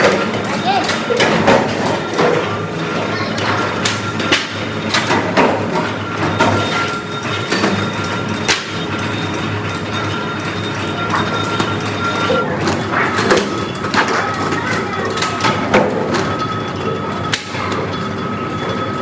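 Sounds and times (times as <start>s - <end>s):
steady machine hum: 0.0s - 19.0s
thin machine whine: 0.0s - 19.0s.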